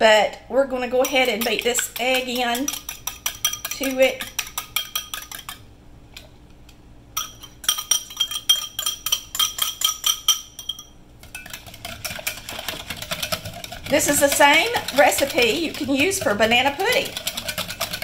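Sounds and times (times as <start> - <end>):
wire whisk clinking against glass bowl: 1.0 - 5.6, 7.2 - 18.0.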